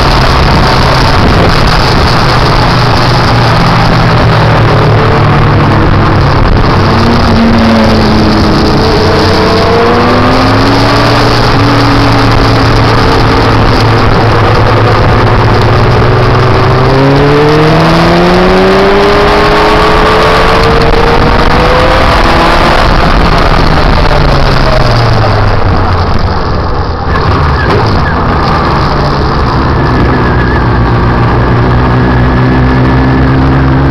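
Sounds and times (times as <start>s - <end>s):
motorcycle engine shifting gears: 0.0s - 33.9s
wind rush on microphone: 0.0s - 33.9s.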